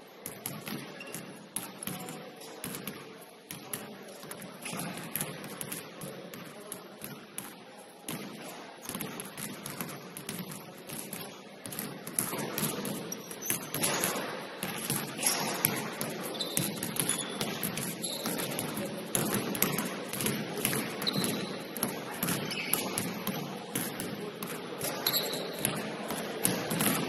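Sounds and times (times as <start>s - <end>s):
basketballs bouncing on wooden floor: 0.2s - 27.0s.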